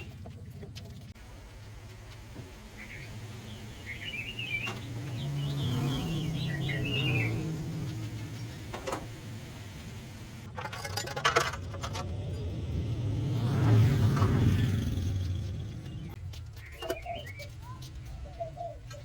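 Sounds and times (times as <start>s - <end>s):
small birds chirping: 0.0s - 10.5s, 13.6s - 19.0s.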